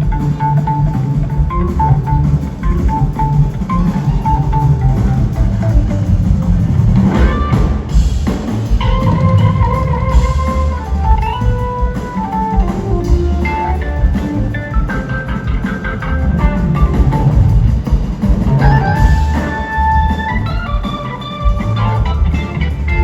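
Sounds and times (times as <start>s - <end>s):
bass guitar: 0.0s - 23.0s
drum kit: 0.0s - 23.0s
electric guitar lead: 0.0s - 23.0s.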